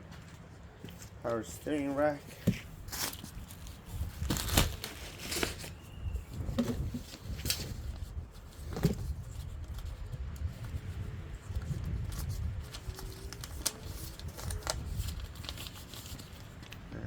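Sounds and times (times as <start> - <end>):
packaging rustling and scraping: 0.1 - 16.9.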